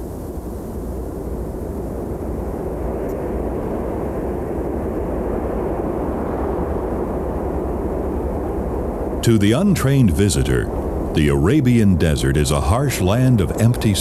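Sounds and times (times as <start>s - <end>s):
wind blowing: 0.0s - 14.0s.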